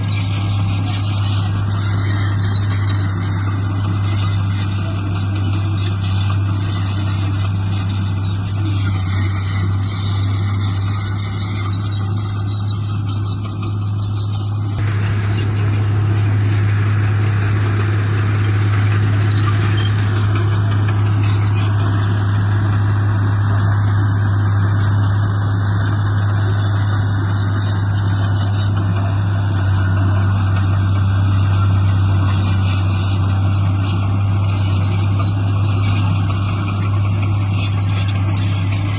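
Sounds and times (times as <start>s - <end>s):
heavy diesel machinery droning: 0.0s - 38.9s.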